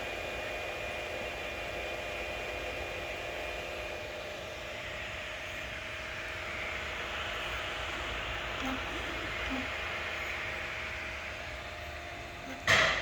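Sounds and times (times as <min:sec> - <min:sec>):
printer cooling fans whirring: 0:00.0 - 0:13.0.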